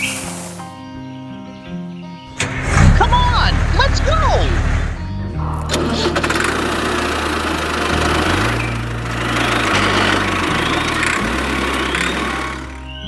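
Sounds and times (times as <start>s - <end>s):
background music with bass line: 0.0s - 13.0s
small engine running: 2.4s - 13.0s.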